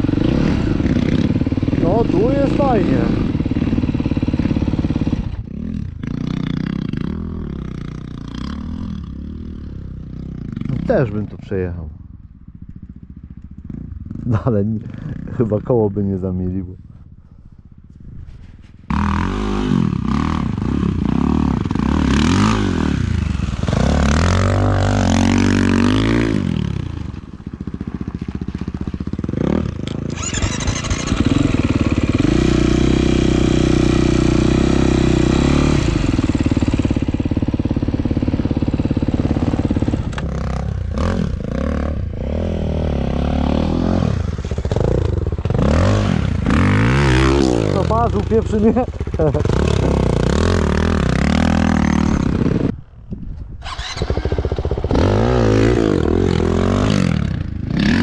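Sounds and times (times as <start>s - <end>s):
motorcycle engine revving: 0.0s - 16.0s, 17.7s - 52.9s, 53.6s - 58.0s.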